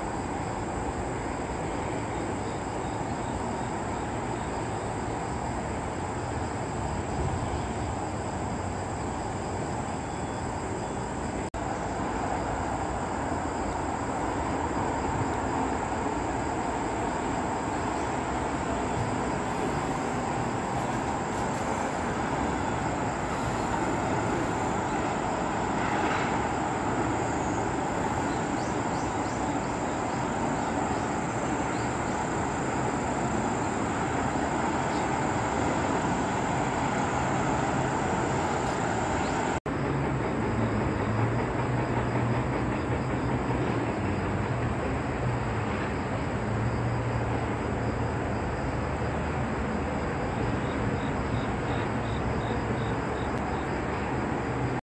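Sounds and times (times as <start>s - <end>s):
distant traffic noise: 0.0s - 54.8s.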